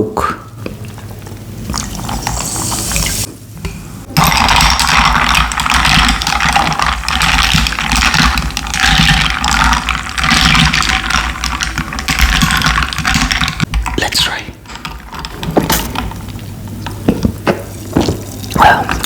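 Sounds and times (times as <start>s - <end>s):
fizzing drink pouring: 0.7s - 3.3s, 4.2s - 13.6s, 15.3s - 19.0s.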